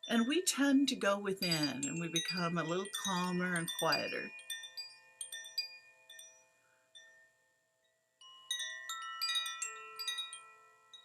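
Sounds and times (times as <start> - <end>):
wind chime ringing: 1.4 - 11.0.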